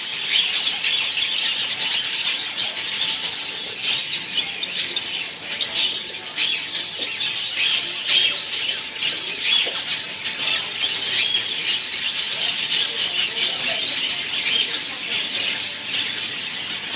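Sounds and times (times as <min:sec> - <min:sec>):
finches chirping: 0:00.0 - 0:16.9.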